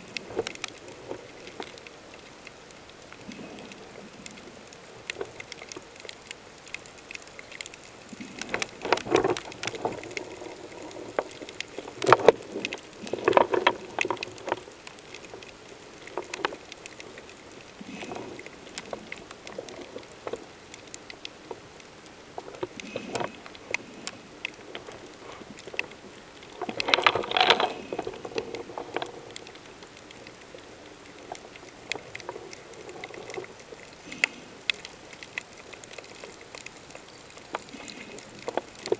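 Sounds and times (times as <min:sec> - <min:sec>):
faint underwater crackle: 0:00.0 - 0:38.9
underwater bubbling: 0:00.0 - 0:38.9.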